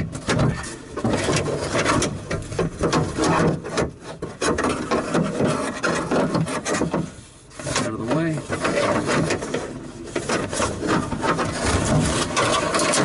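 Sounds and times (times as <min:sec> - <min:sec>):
door latch rubbing and scraping: 0:00.0 - 0:13.0.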